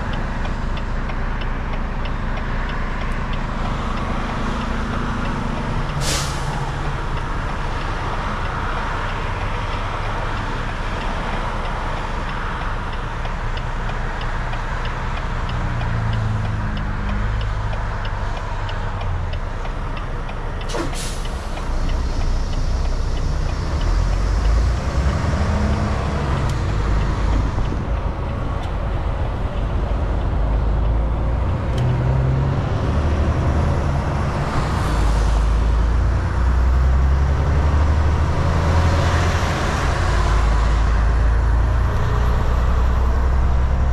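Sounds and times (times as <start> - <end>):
truck engine droning: 0.0 - 43.9
tyre road noise: 0.0 - 43.9.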